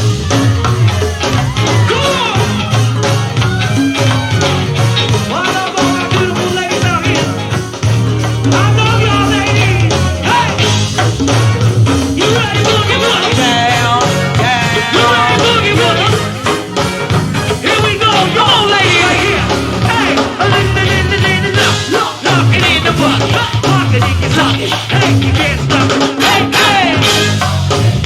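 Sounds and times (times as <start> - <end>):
drum and percussion groove: 0.0 - 28.0
live band playing: 0.0 - 28.0
person singing: 0.5 - 7.7, 8.4 - 10.8, 12.1 - 16.7, 17.5 - 27.5.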